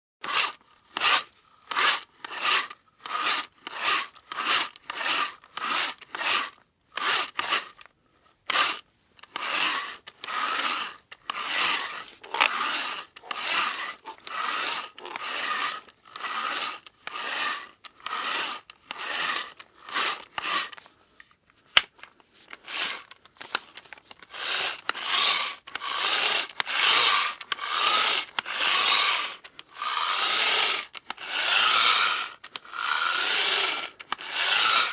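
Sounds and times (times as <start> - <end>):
hand drill grinding: 0.2 - 7.8, 8.6 - 20.8, 22.5 - 34.9.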